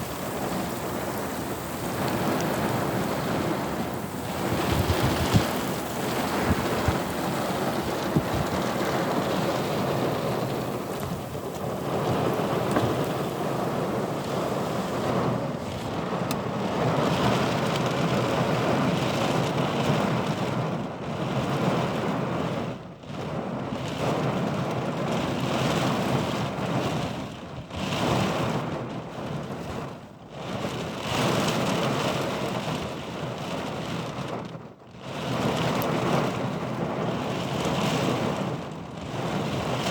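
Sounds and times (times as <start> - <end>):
gusting wind: 0.0 - 39.9
heavy rain: 0.0 - 39.9.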